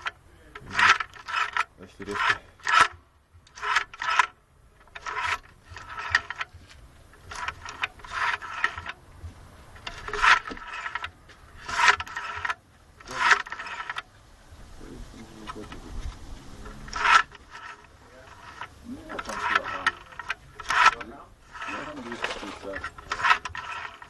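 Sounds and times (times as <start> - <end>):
scraping clacks of linkage: 0.0 - 14.2, 15.2 - 24.0.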